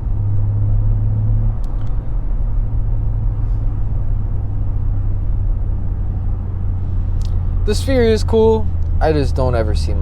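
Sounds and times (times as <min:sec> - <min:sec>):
car engine cruising drone: 0:00.0 - 0:10.0
road noise: 0:00.0 - 0:10.0.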